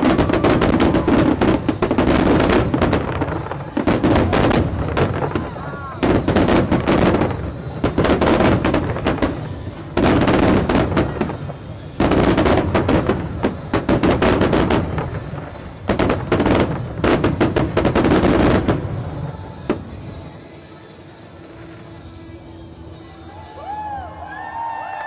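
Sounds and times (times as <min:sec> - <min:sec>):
fireworks bursting with sharp bangs: 0:00.0 - 0:23.5.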